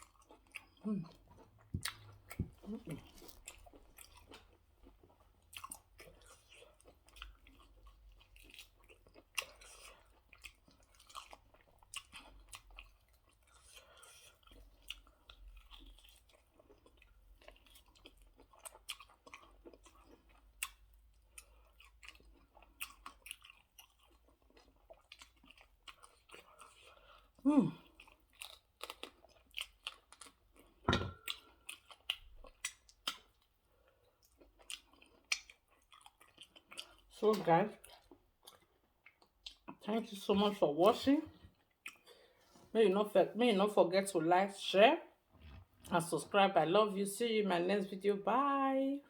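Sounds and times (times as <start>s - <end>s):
person chewing food: 0.0s - 37.2s, 37.8s - 39.8s, 41.4s - 42.7s.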